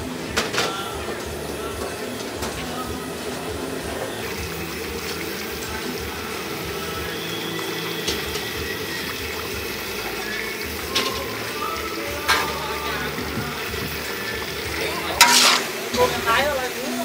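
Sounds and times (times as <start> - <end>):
water pouring: 0.0 - 17.0.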